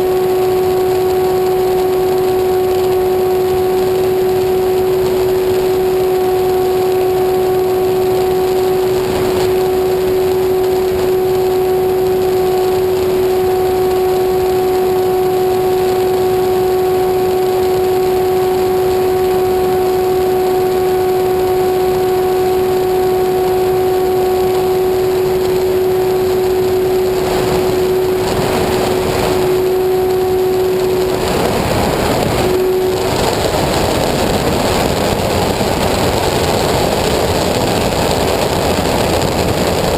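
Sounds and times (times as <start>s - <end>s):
broad rushing noise: 0.0s - 39.9s
engine humming: 0.0s - 39.9s.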